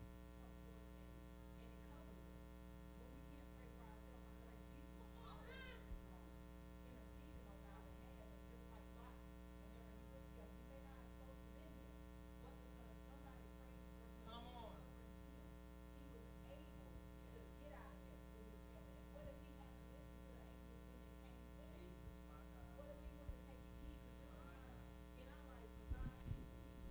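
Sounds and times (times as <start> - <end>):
electrical mains hum: 0.0 - 26.9
faint indistinct voices: 2.9 - 15.0, 15.8 - 26.6.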